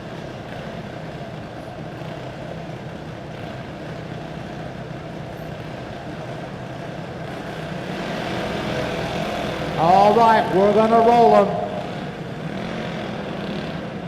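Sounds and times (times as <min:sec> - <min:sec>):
go-kart engines droning: 0:00.0 - 0:14.0.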